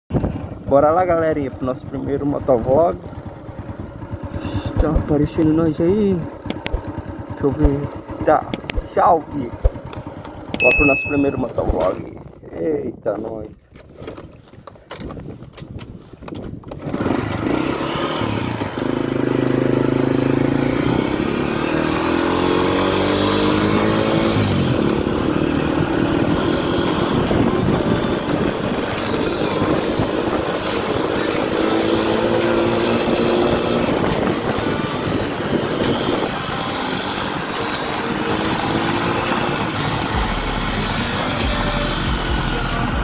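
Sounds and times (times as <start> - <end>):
motorcycle engine under load: 0.1 - 12.6, 13.4 - 43.0.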